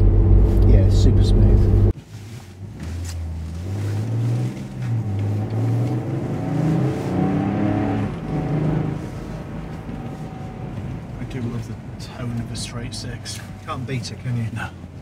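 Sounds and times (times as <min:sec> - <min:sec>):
car engine pulling hard: 0:00.0 - 0:15.0
road rumble: 0:00.0 - 0:15.0.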